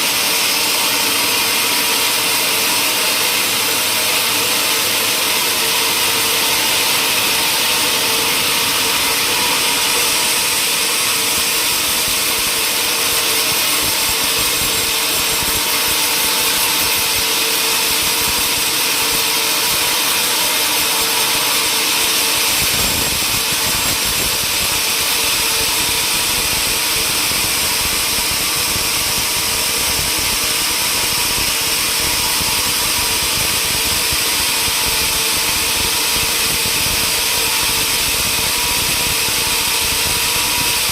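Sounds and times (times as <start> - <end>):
sawmill machinery whining: 0.0 - 40.9.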